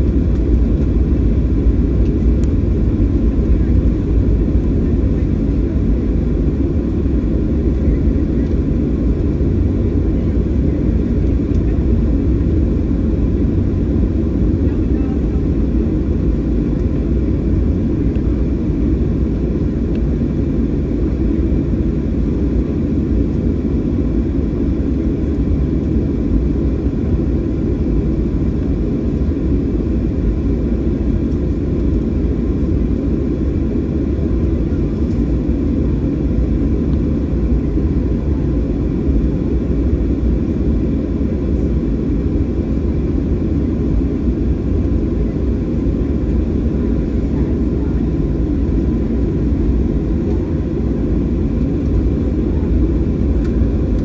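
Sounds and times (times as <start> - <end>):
low cabin rumble: 0.0 - 54.0.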